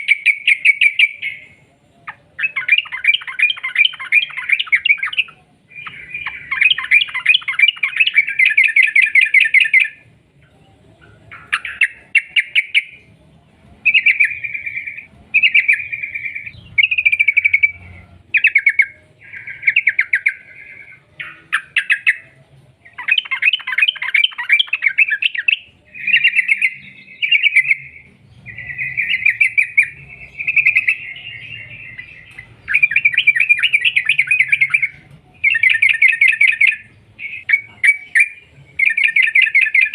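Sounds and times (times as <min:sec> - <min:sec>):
bulbul singing rapid phrases: 0:00.0 - 0:39.9.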